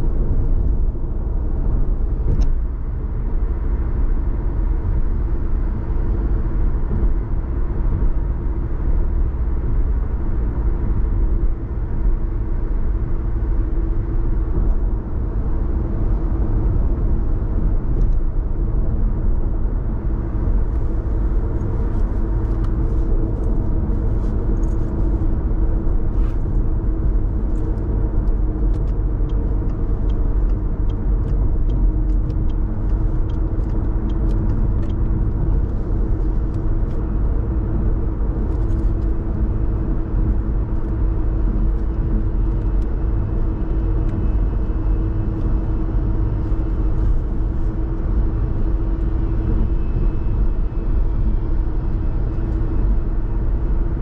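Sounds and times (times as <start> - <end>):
car road and engine rumble: 0.0 - 54.0
constant hum: 0.0 - 54.0.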